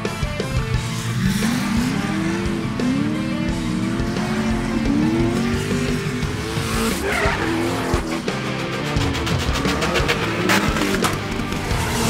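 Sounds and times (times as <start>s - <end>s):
background music: 0.0s - 12.0s
car engine revving: 0.0s - 12.0s
tires squealing: 0.6s - 12.0s.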